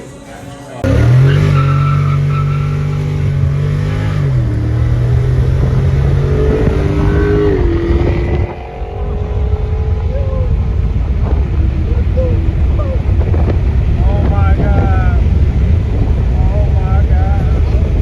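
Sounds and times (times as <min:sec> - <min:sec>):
car engine at high revs: 0:00.8 - 0:18.0.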